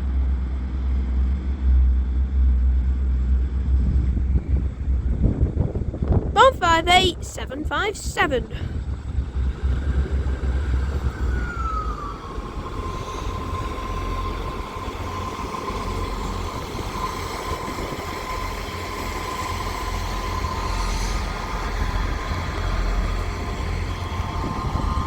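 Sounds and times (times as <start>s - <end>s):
engine whine: 0.0s - 25.0s
train engine rumble: 0.0s - 25.0s.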